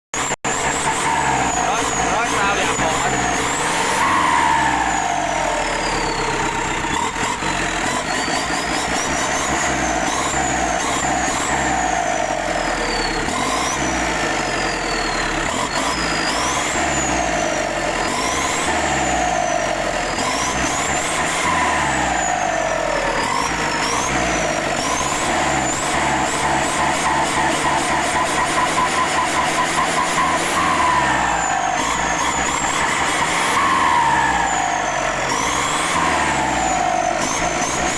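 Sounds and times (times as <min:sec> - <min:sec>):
diesel engine revving: 0:00.1 - 0:37.9
turbo whistling: 0:00.2 - 0:14.0, 0:14.6 - 0:37.9.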